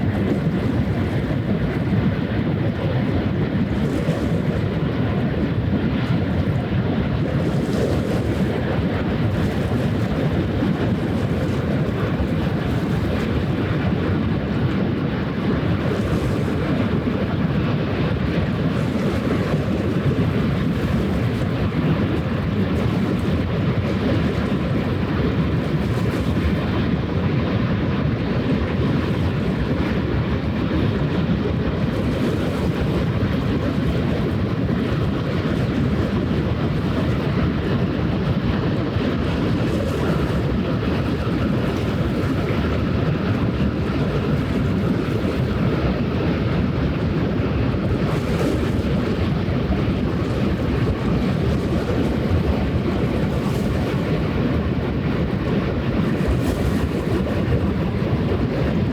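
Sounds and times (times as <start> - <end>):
boat engine rumble: 0.0 - 58.9
wind noise on microphone: 0.0 - 58.9.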